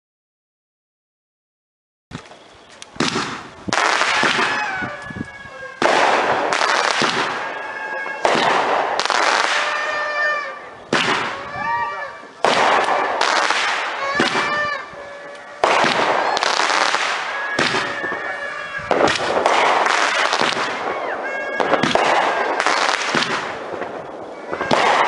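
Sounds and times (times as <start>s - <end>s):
firework crackling: 2.1s - 25.0s
firework bangs: 3.0s - 25.0s.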